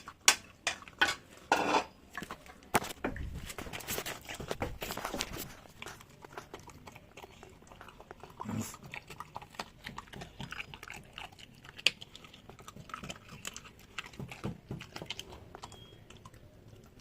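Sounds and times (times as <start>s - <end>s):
dog chewing and crunching: 0.0s - 17.0s.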